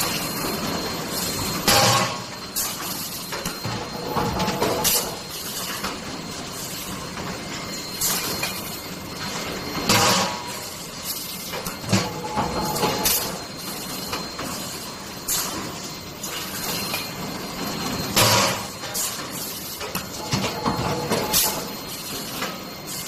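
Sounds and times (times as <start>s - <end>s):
forging press machine noise: 0.0s - 23.0s.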